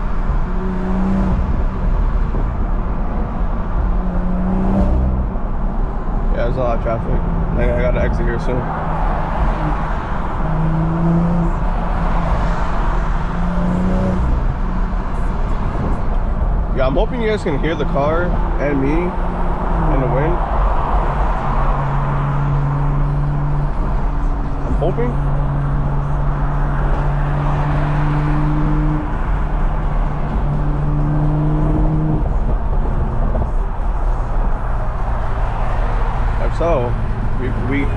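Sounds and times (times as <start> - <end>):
car engine drone: 0.0 - 37.9
road and wind noise: 0.0 - 37.9.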